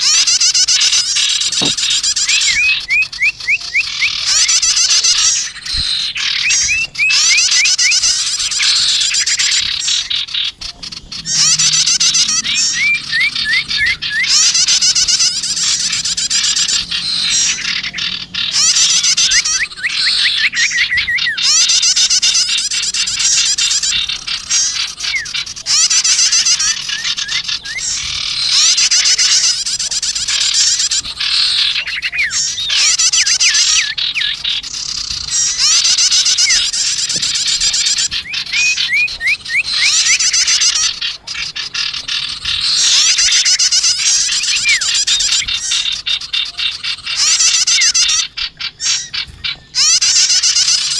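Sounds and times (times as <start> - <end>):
small birds chirping and trilling: 0.0 - 50.9.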